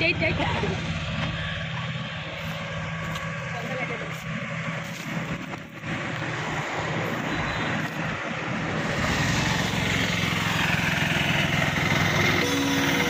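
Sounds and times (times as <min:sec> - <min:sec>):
tractor diesel engine drone: 0:00.0 - 0:13.0
traffic noise: 0:00.0 - 0:13.0.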